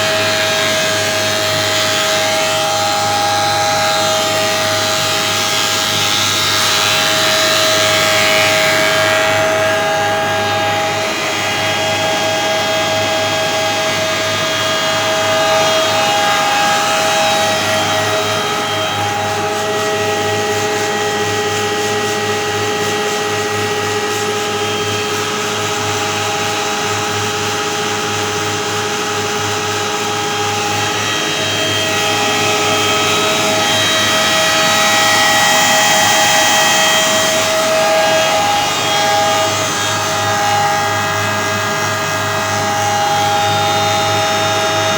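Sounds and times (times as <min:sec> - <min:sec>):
machine whining over low hum: 0:00.0 - 0:44.9.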